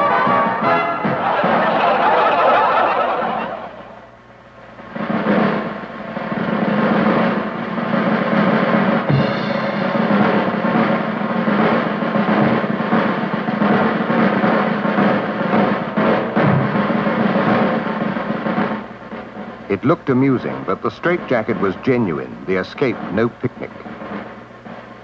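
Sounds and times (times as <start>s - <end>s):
music with drums: 0.0s - 25.0s.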